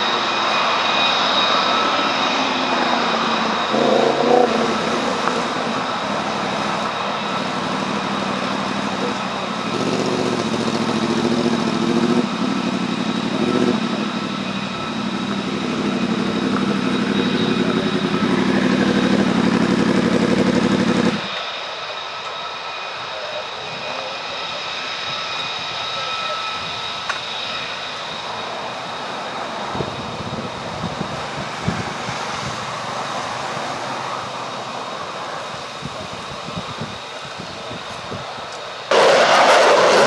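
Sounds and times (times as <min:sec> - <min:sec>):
deep jet rumble: 0:00.0 - 0:21.4, 0:23.2 - 0:40.0
jet engine whine: 0:00.0 - 0:40.0.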